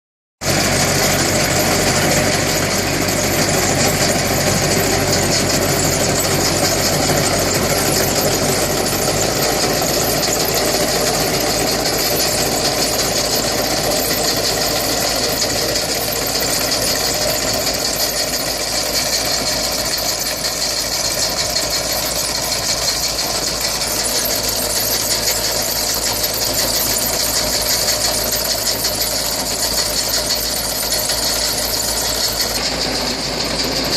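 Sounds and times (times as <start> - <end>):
harvester rhythmic mechanical clatter: 0.4 - 33.9
tractor engine running under load: 0.4 - 33.9.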